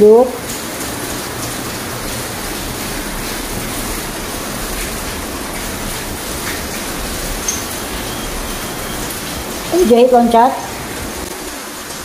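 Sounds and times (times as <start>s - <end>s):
rain heard from indoors: 0.0s - 12.0s.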